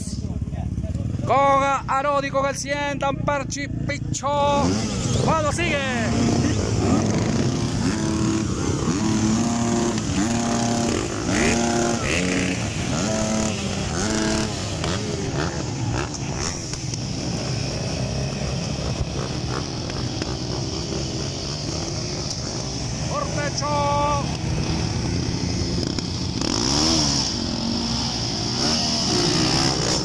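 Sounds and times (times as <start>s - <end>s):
engines idling: 0.0s - 30.0s
motocross bikes revving: 0.0s - 30.0s.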